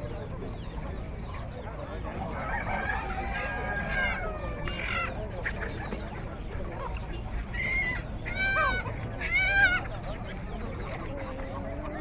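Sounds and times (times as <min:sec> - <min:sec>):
background birds and bustle: 0:00.0 - 0:12.0.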